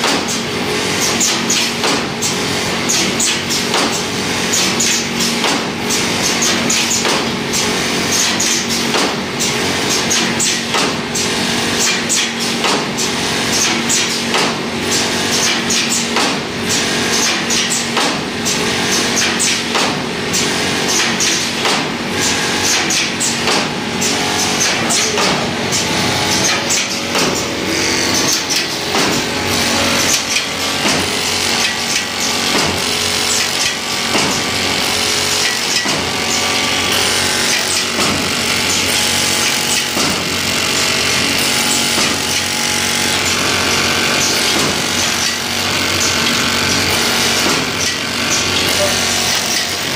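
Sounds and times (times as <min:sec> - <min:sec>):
machine clattering and clacking: 0:00.0 - 0:49.9
stitching machine motor hum: 0:00.0 - 0:49.9.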